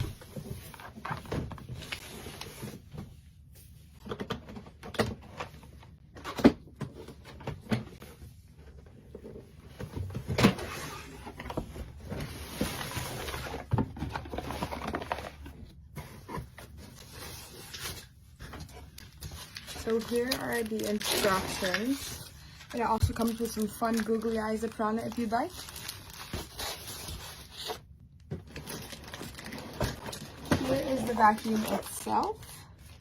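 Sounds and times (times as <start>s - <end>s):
packaging rustling and scraping: 0.0s - 3.8s, 8.0s - 33.0s.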